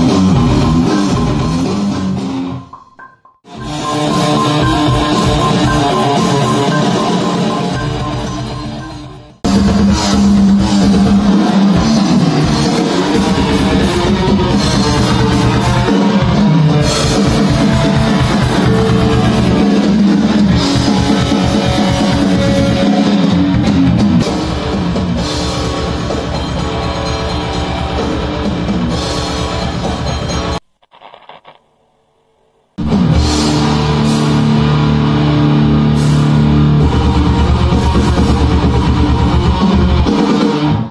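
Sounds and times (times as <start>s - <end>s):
rock music: 0.0s - 31.5s, 32.8s - 40.9s.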